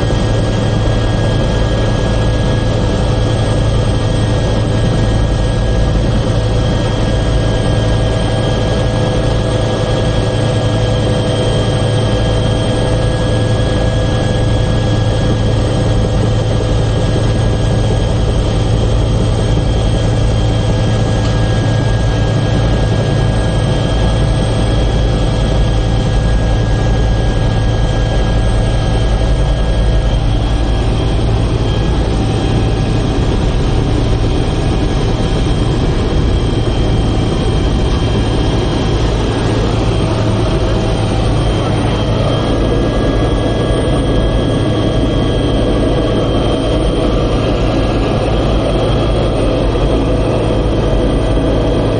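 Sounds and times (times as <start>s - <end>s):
helicopter engine and rotor drone: 0.0s - 51.9s.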